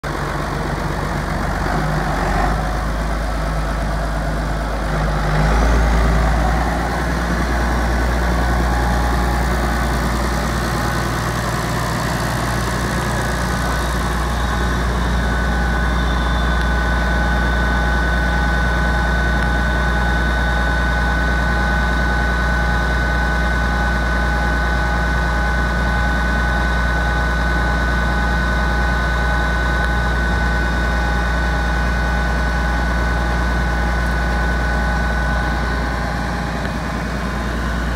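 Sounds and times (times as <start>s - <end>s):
tractor diesel engine idling: 0.0s - 37.9s
thin high whine: 1.6s - 37.9s.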